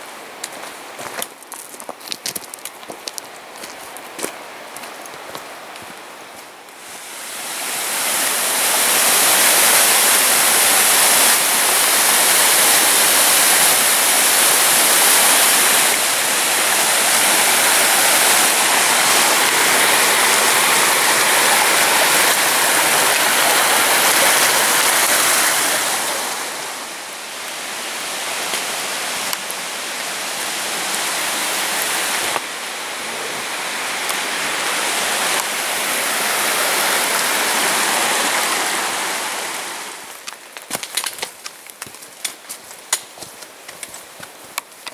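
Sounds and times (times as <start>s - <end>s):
stream splashing over rocks: 0.0s - 44.9s.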